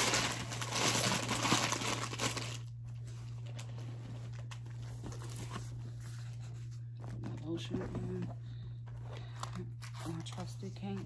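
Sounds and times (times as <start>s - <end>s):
items rustling into a bag: 0.0s - 11.0s.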